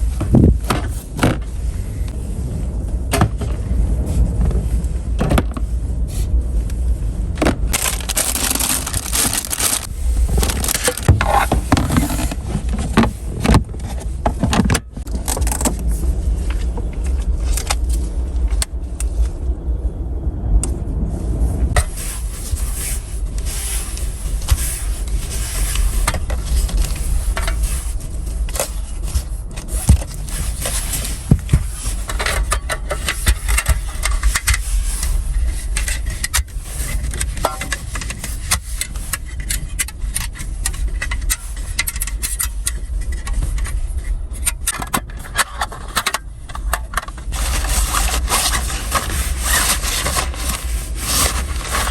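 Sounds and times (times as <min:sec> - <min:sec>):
steady low rumble: 0:00.0 - 0:51.9
scraping and crunching: 0:05.4 - 0:18.8, 0:21.7 - 0:51.9.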